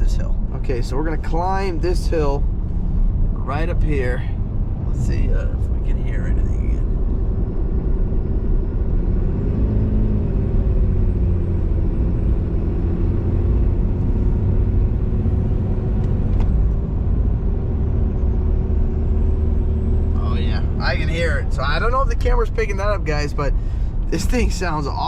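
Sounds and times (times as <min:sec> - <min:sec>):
deep diesel engine rumble: 0:00.0 - 0:25.0.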